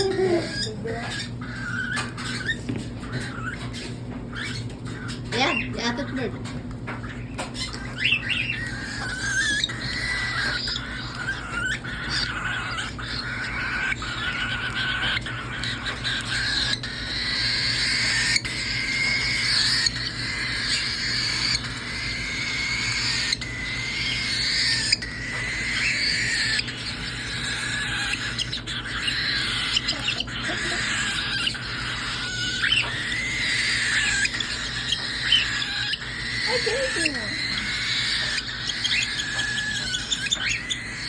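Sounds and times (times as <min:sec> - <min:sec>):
cockatiel chicks begging calls: 0:00.0 - 0:41.0.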